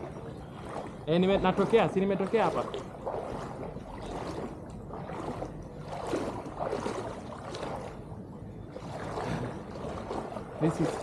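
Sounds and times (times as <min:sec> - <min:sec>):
water sloshing around legs: 0:00.0 - 0:11.0.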